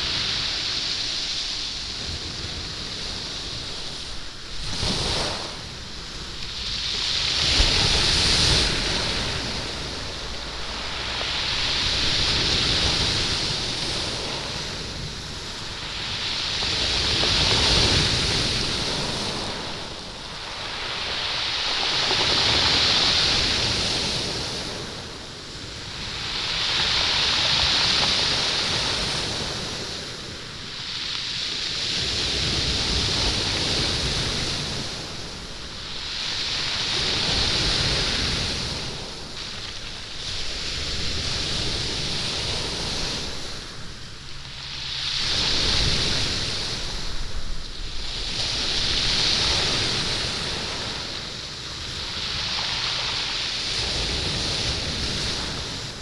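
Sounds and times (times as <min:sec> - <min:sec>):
waves washing up stony beach: 0:00.0 - 0:56.0.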